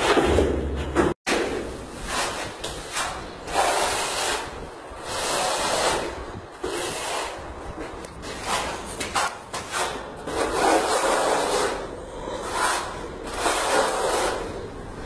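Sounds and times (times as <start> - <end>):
trowel scraping plaster on wall: 1.3 - 14.7.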